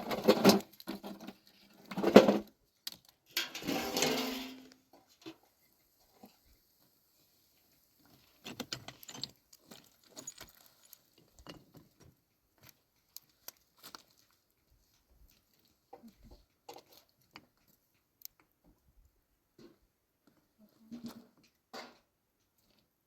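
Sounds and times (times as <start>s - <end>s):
faint small clicks and rustles: 2.6s - 3.5s, 4.7s - 23.0s.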